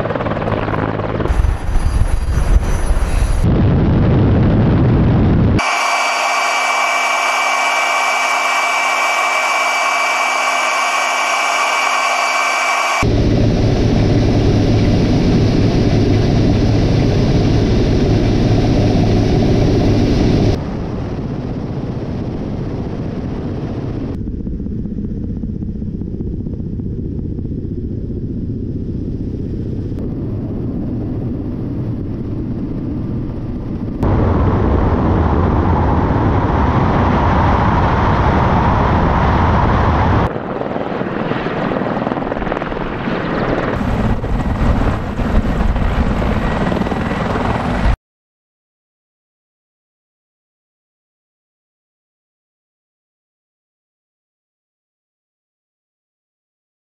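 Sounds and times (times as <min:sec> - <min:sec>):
helicopter engines and rotors: 0:00.0 - 0:48.0.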